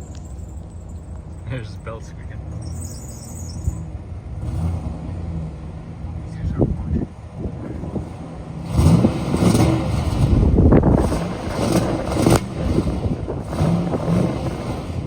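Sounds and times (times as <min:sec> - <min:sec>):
truck engine revving hard: 0:02.4 - 0:15.0.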